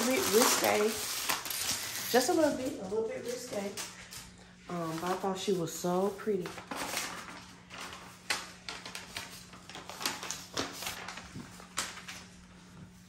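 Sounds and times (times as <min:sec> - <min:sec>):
plastic wrap rustling: 0:00.0 - 0:13.0.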